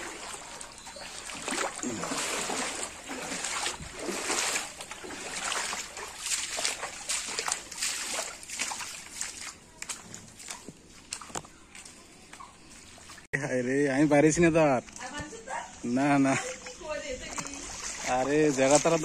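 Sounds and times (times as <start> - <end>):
footsteps wading through water: 0.0 - 13.3, 16.2 - 19.0.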